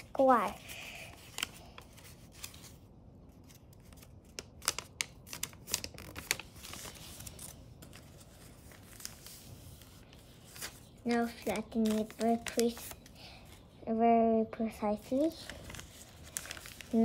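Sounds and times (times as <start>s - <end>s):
paper crackling and rustling: 0.0s - 13.6s, 15.0s - 17.0s.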